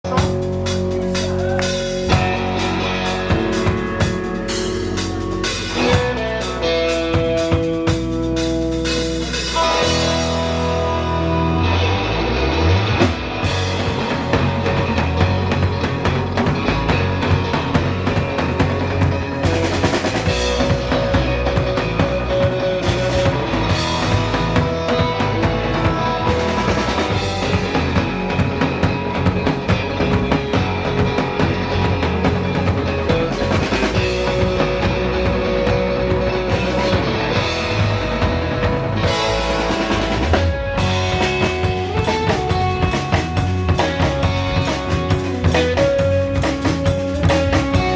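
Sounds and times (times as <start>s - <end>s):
drum kit beat: 0.0s - 11.2s, 12.8s - 47.9s
bass: 0.0s - 47.9s
electric guitar: 0.0s - 47.9s.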